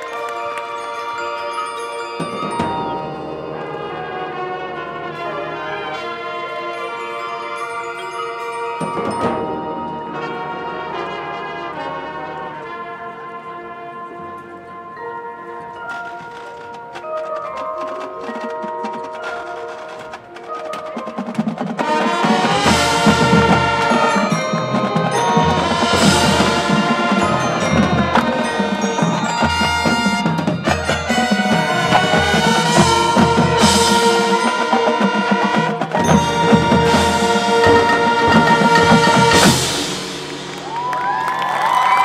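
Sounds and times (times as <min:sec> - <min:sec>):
mallet percussion: 0:00.0 - 0:12.9, 0:14.4 - 0:42.0
marching band playing: 0:00.0 - 0:42.0.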